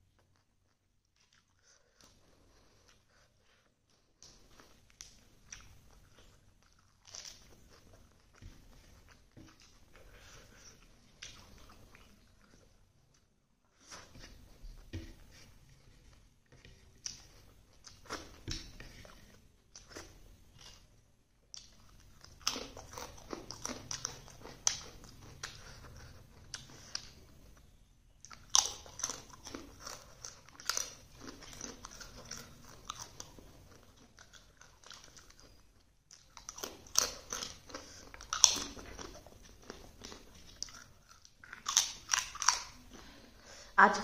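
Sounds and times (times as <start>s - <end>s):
person chewing crunchy food: 0.0s - 43.8s.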